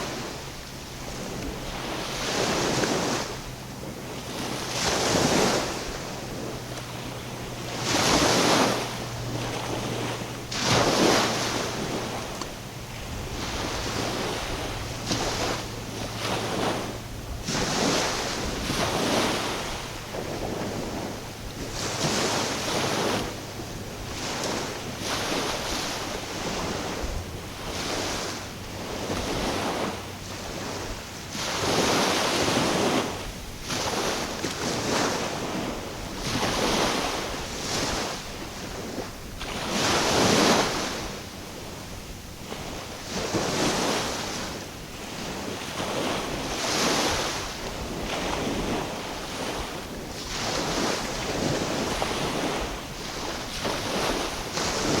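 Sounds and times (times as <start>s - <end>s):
small waves washing on shore: 0.0s - 55.0s
wind buffeting microphone: 0.0s - 55.0s.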